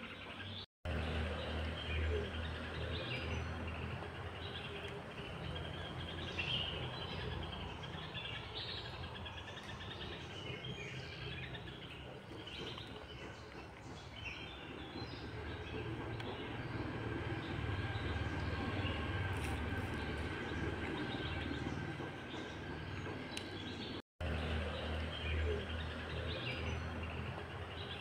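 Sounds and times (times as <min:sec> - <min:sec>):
birds chirping and trilling: 0:00.0 - 0:28.0
low outdoor rumble: 0:00.9 - 0:28.0.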